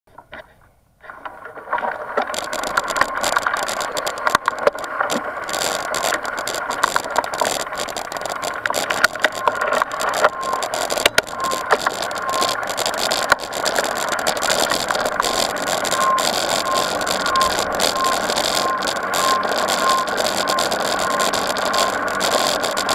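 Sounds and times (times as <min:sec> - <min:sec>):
tyre and wind noise: 0:00.1 - 0:22.9
bike rattling and clicking: 0:01.0 - 0:22.9.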